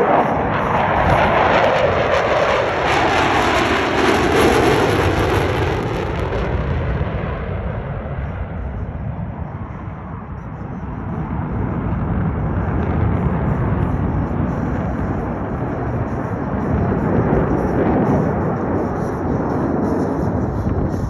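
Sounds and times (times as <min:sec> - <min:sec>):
aircraft engine flying past: 0:00.0 - 0:21.0.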